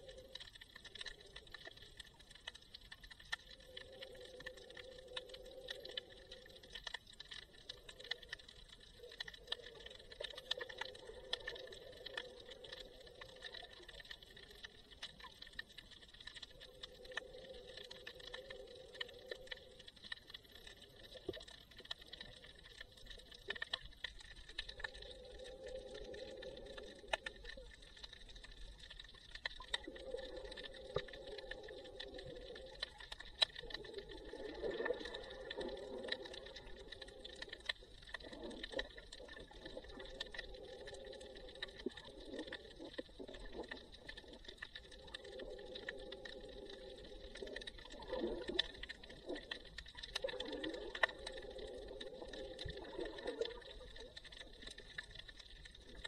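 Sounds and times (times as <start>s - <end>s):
underwater crackle of tiny clicks: 0.0s - 56.0s.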